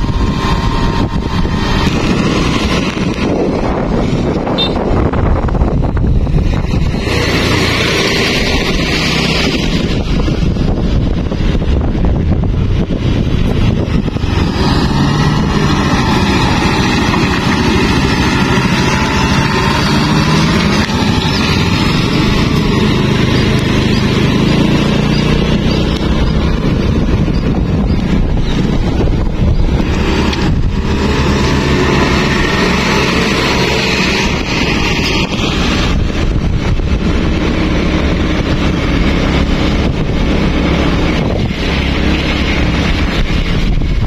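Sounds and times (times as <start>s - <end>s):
engine drone: 0.0s - 44.0s
truck and motorcycle engines: 0.0s - 44.0s
wind on microphone: 0.0s - 44.0s.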